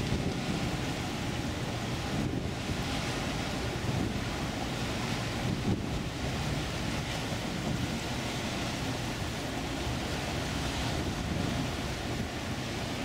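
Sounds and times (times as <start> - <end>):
river water rushing: 0.0 - 13.0
wind noise on microphone: 0.0 - 13.0.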